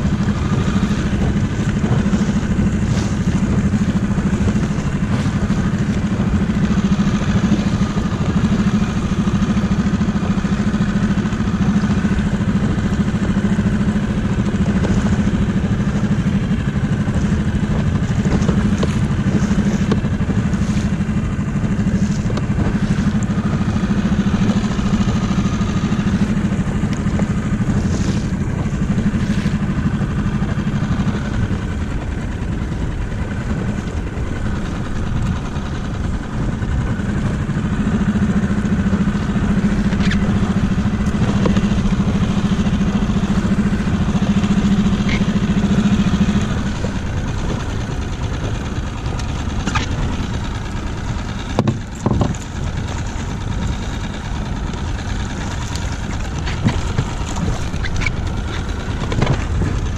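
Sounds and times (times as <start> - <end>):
outboard motor droning: 0.0 - 59.9.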